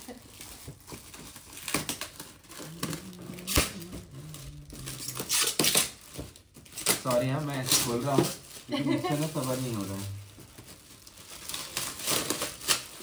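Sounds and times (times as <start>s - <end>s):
wrapping paper tearing and crumpling: 0.0s - 13.0s.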